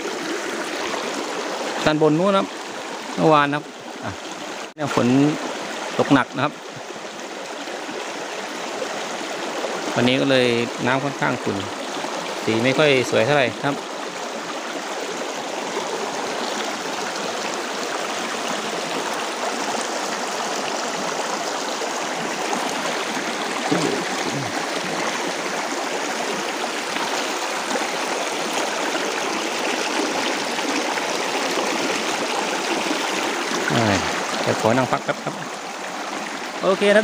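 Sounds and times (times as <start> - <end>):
stream running over rocks: 0.0 - 37.0.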